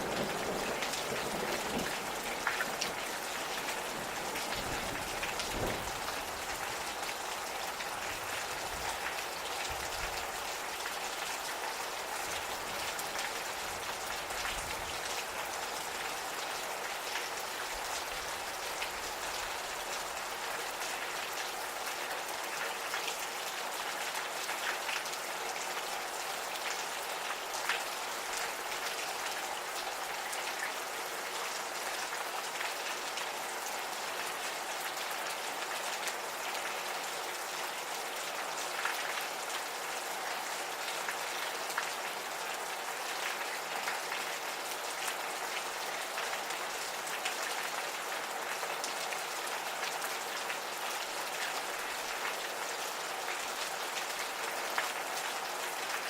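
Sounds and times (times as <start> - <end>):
rain drops ticking on surfaces: 0.0 - 56.0.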